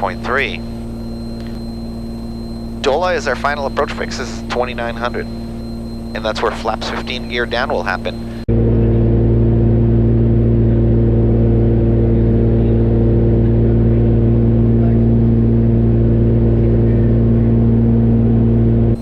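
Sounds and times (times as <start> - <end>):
aircraft cabin engine drone: 0.0 - 19.0.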